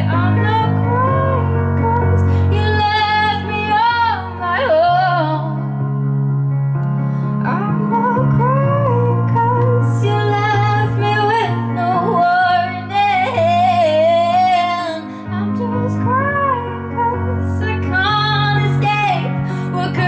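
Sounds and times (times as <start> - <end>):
woman singing into a microphone: 0.0 - 5.9, 7.3 - 20.0
instrumental accompaniment with bass: 0.0 - 20.0.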